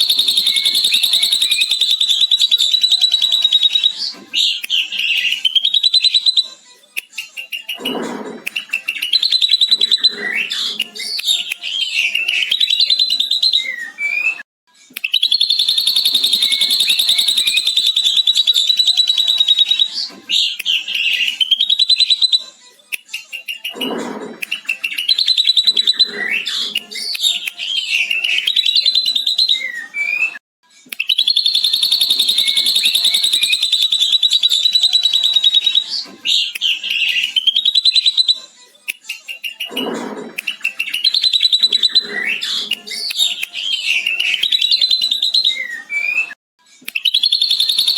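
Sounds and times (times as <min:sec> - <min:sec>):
bird whistled phrases: 0:00.0 - 0:06.6, 0:08.5 - 0:14.4, 0:15.0 - 0:22.5, 0:23.4 - 0:30.4, 0:31.0 - 0:38.5, 0:39.3 - 0:47.9.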